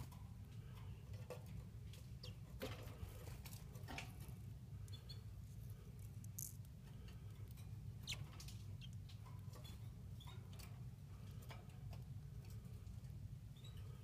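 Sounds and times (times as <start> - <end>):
bird chick ticks and squeaks: 0.0 - 14.0
low steady hum: 0.0 - 14.0.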